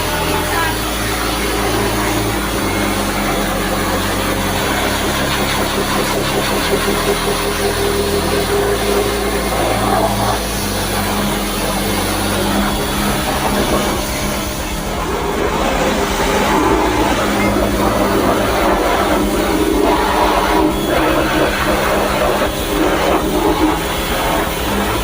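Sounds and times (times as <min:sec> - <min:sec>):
machine hissing and humming: 0:00.0 - 0:25.0.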